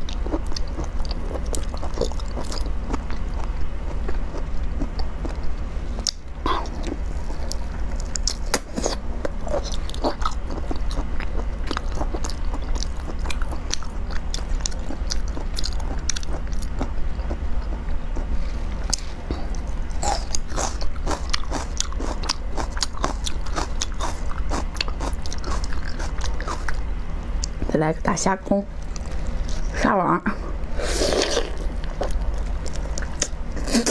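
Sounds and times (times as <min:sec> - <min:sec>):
wet crunchy chewing: 0:00.0 - 0:26.8, 0:30.8 - 0:33.9
steady low hum: 0:00.0 - 0:33.9.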